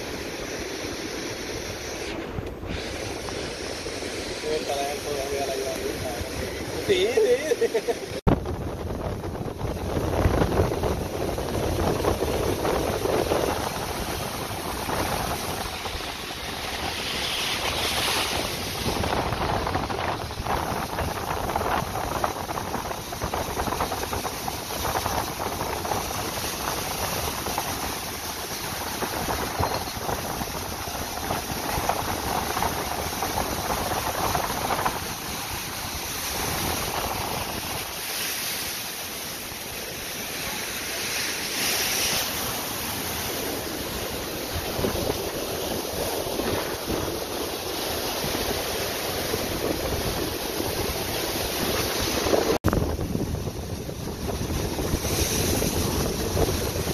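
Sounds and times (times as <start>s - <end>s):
ocean surf breaking: 0.0s - 56.9s
wind buffeting microphone: 8.0s - 56.9s.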